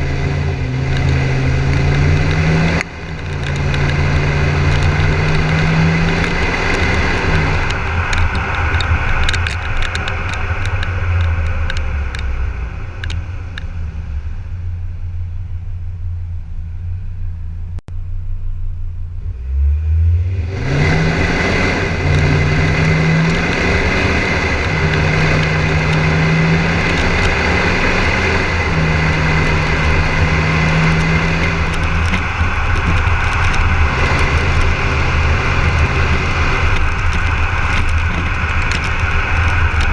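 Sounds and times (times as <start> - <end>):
diesel car engine accelerating: 0.0 - 39.9.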